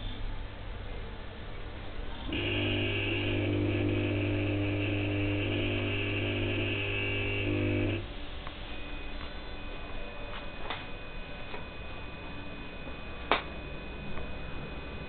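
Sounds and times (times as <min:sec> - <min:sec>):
lamp ballast humming: 0:02.3 - 0:15.0.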